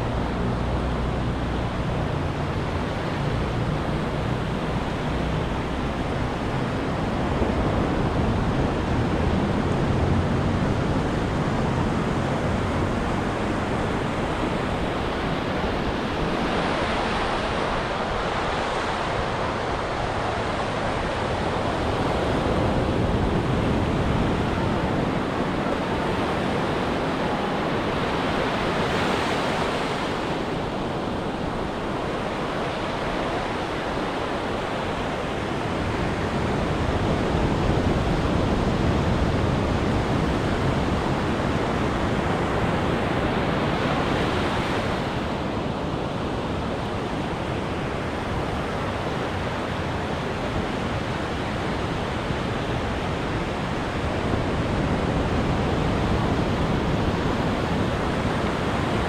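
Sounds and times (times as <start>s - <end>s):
ocean surf breaking: 2.5s - 59.0s.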